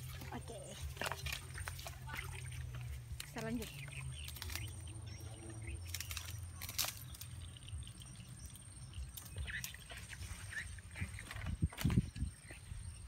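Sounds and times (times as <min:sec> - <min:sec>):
twigs crackling and snapping: 0:00.0 - 0:08.5, 0:09.1 - 0:12.2.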